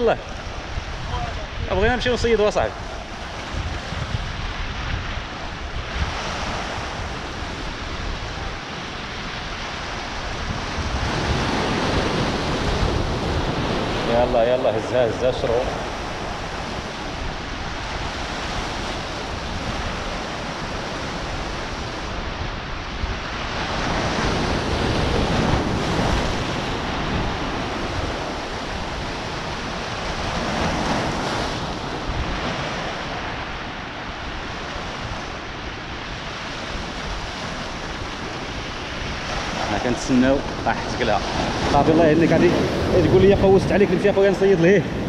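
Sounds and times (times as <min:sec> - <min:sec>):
sea waves breaking on rocks: 0:00.0 - 0:45.0.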